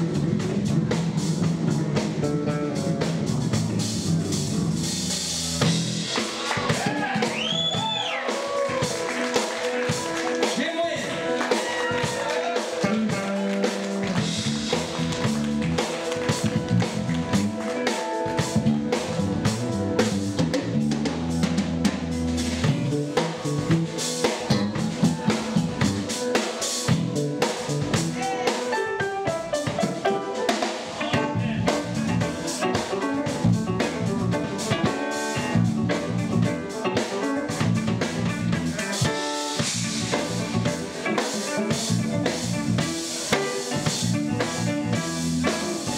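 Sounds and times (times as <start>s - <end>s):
drum kit beat: 0.0s - 45.9s
live band playing: 0.0s - 45.9s.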